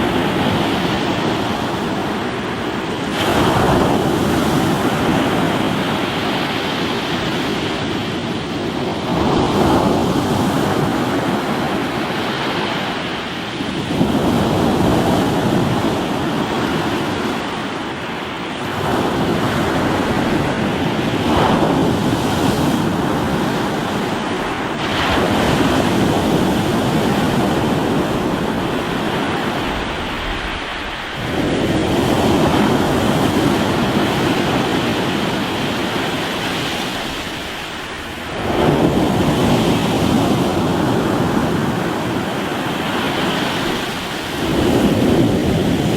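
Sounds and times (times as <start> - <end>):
waves breaking on rocky shore: 0.0 - 45.9.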